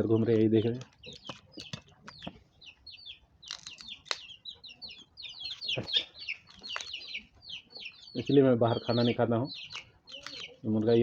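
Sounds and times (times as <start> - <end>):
chickens clucking: 0.0 - 11.0
chicks peeping and chirping: 0.0 - 11.0.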